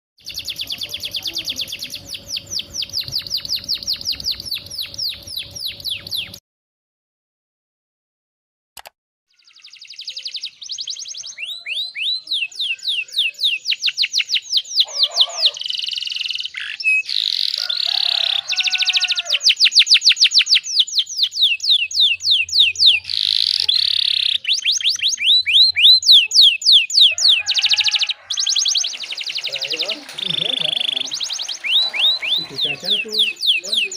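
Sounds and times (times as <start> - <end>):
canary singing trills: 0.2 - 6.4, 9.3 - 33.9.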